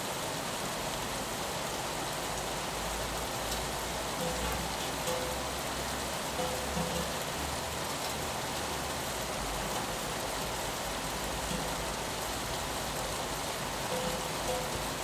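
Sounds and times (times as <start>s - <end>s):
rain pattering on window glass: 0.9s - 15.0s.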